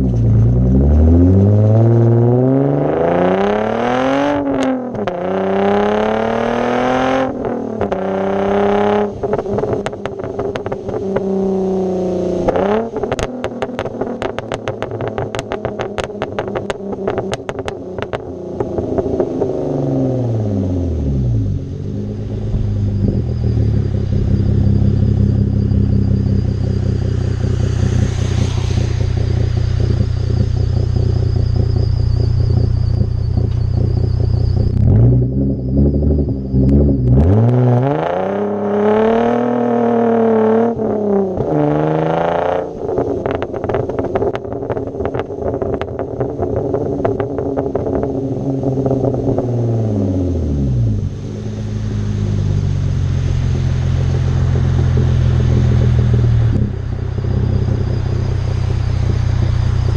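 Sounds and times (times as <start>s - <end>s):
car exhaust revving and popping: 0.0s - 59.9s.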